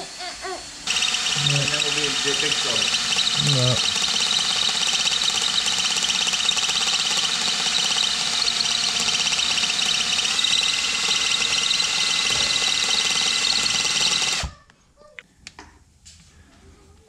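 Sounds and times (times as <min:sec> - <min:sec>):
power tool rattling and whining: 0:00.8 - 0:14.5.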